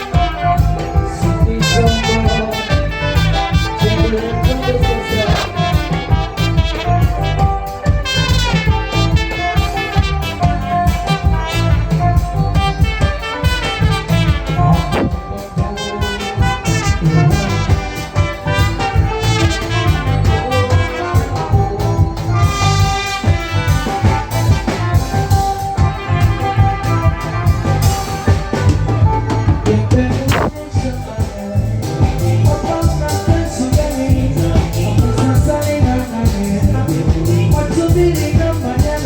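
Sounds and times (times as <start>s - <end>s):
bass: 0.0s - 39.0s
horn-like lead melody: 0.0s - 39.0s
steady drum beat: 0.0s - 39.0s.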